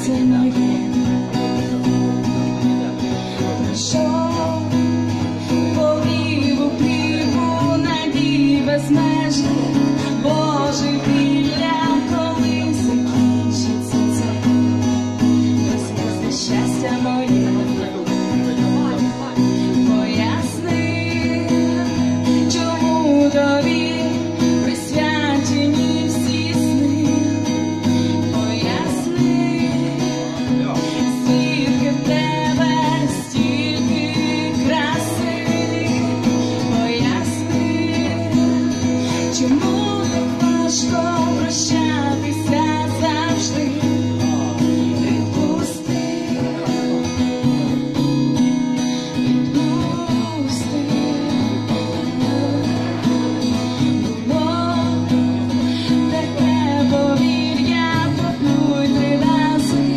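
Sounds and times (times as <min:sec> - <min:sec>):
acoustic guitar: 0:00.0 - 0:59.9
woman singing: 0:00.0 - 0:59.9.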